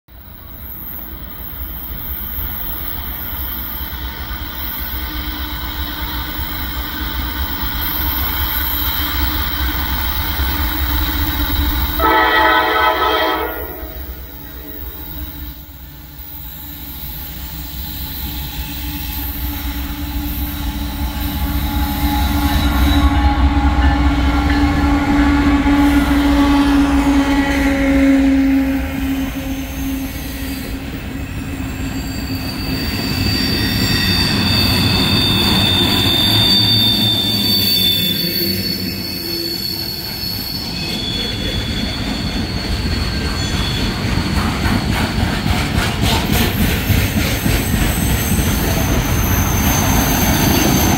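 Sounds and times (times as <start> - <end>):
train wheel squeal: 0.1 - 50.9
wheel noise on rails: 0.1 - 50.9.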